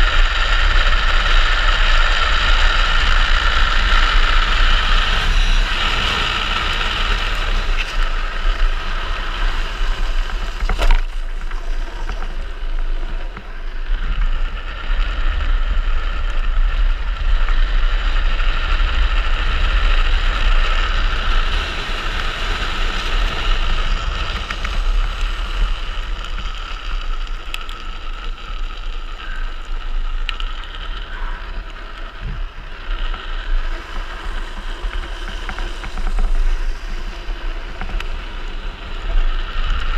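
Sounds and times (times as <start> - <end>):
wheels rolling on asphalt: 0.0 - 39.9
wind rushing over microphone: 0.0 - 39.9.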